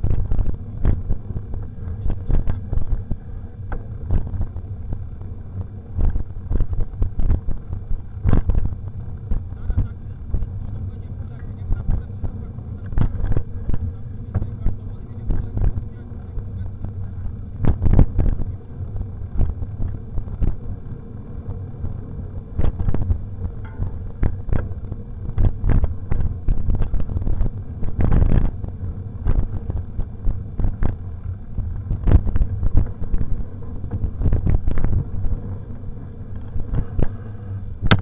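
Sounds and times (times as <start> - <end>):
low rumble: 0.0 - 38.0
mountain bike rattling: 0.0 - 38.0.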